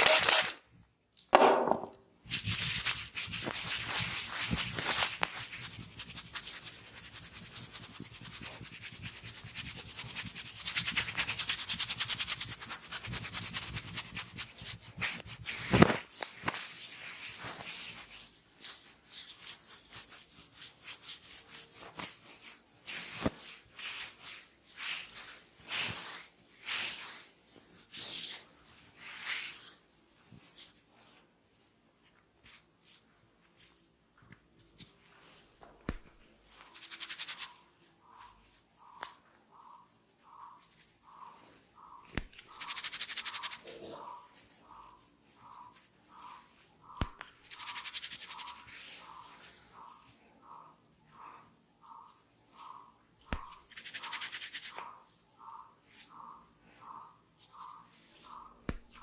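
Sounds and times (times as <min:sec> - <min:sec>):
hands rubbing hair and scalp: 0:02.2 - 0:59.0.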